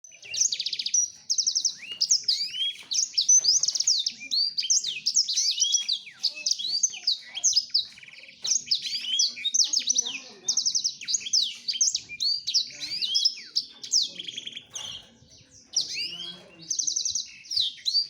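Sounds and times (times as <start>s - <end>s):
canary singing trills and whistles: 0.0s - 18.0s.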